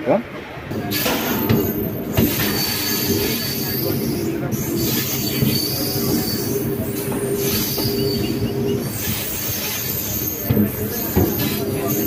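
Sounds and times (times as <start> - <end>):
train rumbling on rails: 0.0 - 12.0
high-pitched wheel squeal: 0.9 - 12.0.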